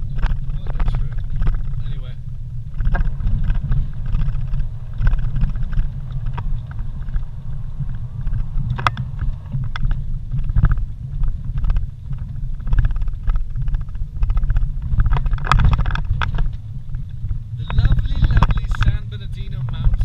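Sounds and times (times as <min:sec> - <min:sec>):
engine and tyres rumbling: 0:00.0 - 0:20.0
vehicle knocks and rattles: 0:00.0 - 0:20.0.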